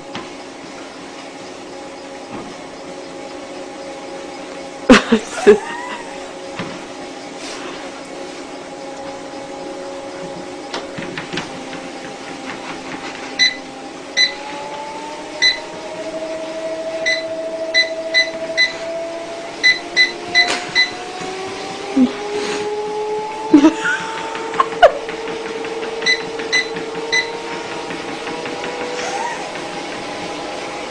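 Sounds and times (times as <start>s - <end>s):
treadmill motor whine: 0.0s - 30.9s.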